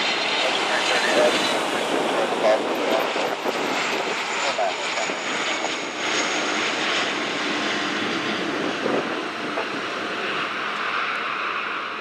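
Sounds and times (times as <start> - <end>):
airliner engines flying past: 0.0 - 12.0.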